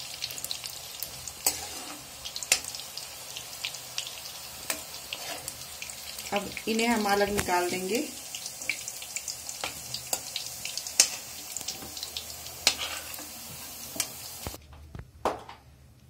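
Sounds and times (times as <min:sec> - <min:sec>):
food sizzling in hot oil: 0:00.0 - 0:14.6.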